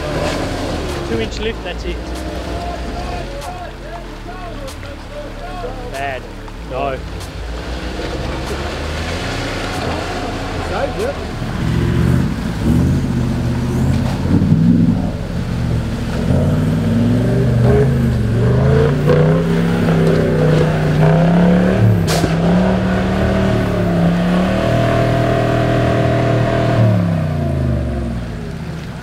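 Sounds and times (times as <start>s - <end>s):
engine revving under load: 0.0s - 29.0s.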